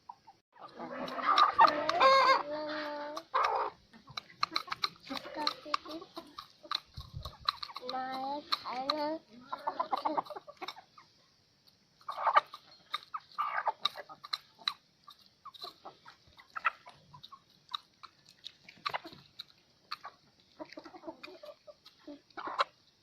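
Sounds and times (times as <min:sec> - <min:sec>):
hen clucking: 0:00.0 - 0:23.0.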